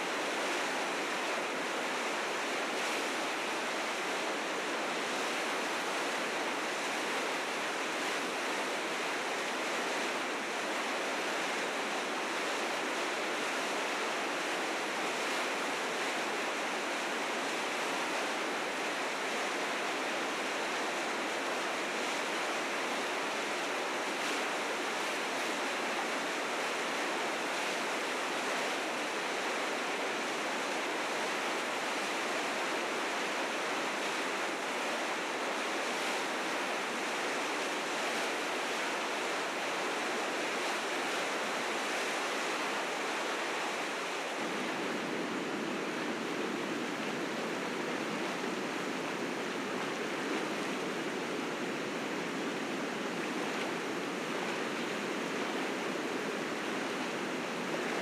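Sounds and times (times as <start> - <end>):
river rapids rushing: 0.0 - 58.0.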